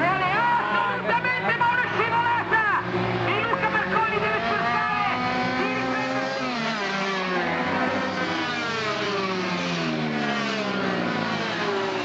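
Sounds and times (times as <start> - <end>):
small motorbike engines whining: 0.0 - 12.0.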